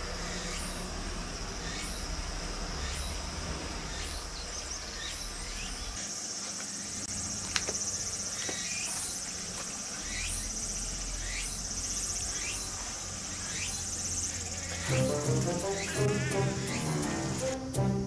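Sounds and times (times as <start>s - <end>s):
insects buzzing drone: 0.0s - 18.0s.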